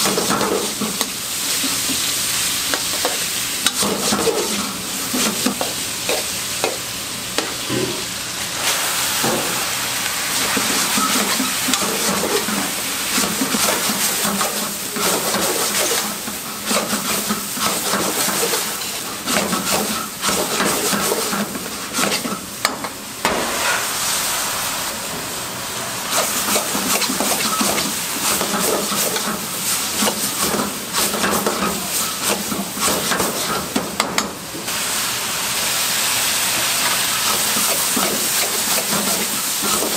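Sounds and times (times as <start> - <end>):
vegetables sizzling in wok: 0.0 - 39.9.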